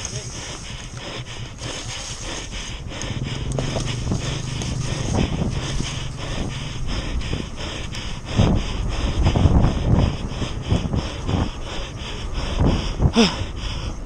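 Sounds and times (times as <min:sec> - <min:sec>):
bike rattling over rough ground: 0:00.0 - 0:11.5
bike tyres on dirt trail: 0:00.0 - 0:14.0
rider breathing hard: 0:00.0 - 0:14.0
wind noise: 0:00.0 - 0:14.0.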